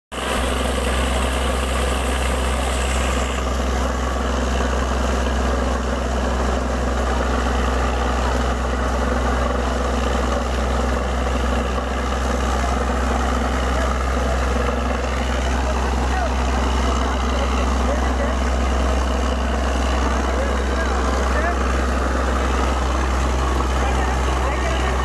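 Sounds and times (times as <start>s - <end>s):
heavy engine low drone: 0.1s - 25.0s
water and mud splashing: 0.2s - 25.0s.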